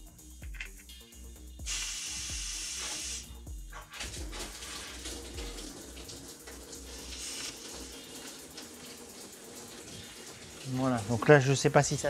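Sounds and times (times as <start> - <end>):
water running from a tap: 1.6 - 12.0.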